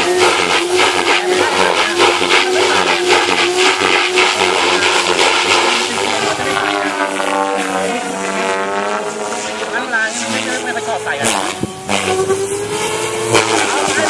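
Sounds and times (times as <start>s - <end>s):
rc helicopter motor whine: 0.0s - 14.0s
spinning rotor blades rushing: 0.0s - 14.0s.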